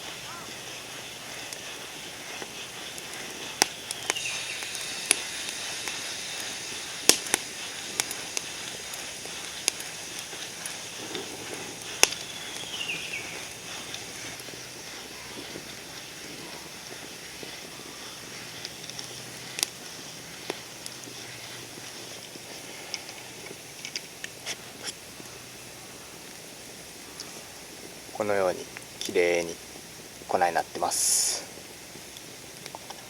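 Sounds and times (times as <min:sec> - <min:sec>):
campfire crackling and popping: 0:00.0 - 0:33.0
campfire hiss: 0:00.0 - 0:33.0.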